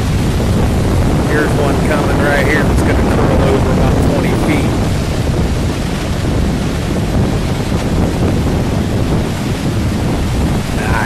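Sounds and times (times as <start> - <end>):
surf crashing ashore: 0.0 - 11.0
wind buffeting microphone: 0.0 - 11.0.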